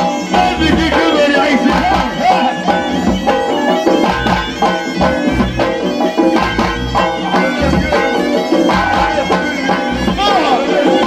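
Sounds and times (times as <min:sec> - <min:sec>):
hand drums beating: 0:00.0 - 0:11.0
reedy wind instrument melody: 0:00.0 - 0:11.0.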